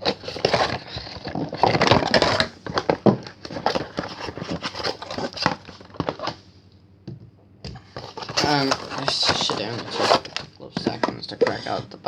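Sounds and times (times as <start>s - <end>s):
cardboard packaging rustling: 0.0s - 6.4s, 7.8s - 11.9s.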